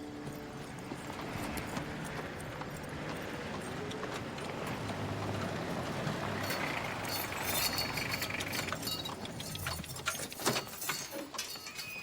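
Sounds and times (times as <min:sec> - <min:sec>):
vehicle engine humming: 0:00.0 - 0:10.2.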